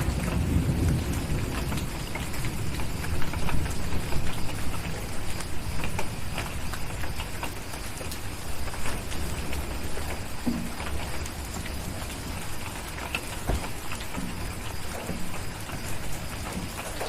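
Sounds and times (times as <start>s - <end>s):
low thunder rumble: 0.0s - 17.0s
steady rain: 0.0s - 17.0s
wood fire crackling: 0.0s - 17.0s.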